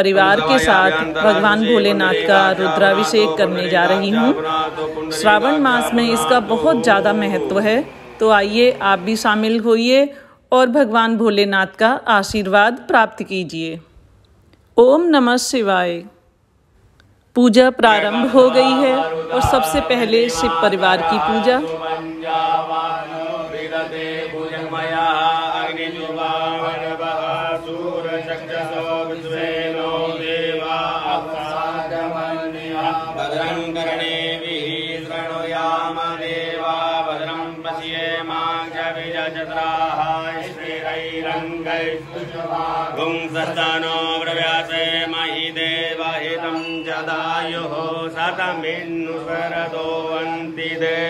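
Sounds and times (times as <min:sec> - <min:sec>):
man chanting: 0:00.0 - 0:09.5, 0:17.9 - 0:51.0.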